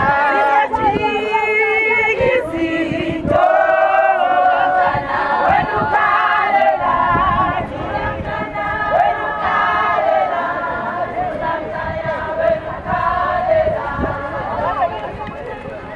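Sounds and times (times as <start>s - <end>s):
women singing and chanting: 0.0s - 15.7s.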